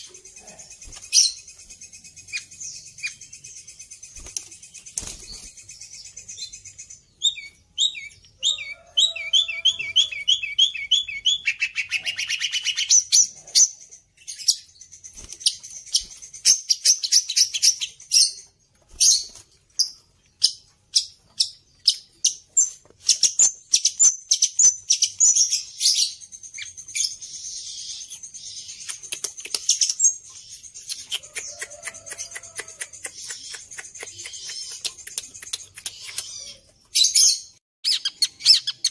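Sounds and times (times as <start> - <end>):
shrike singing chirps and trills: 0.0 - 38.9.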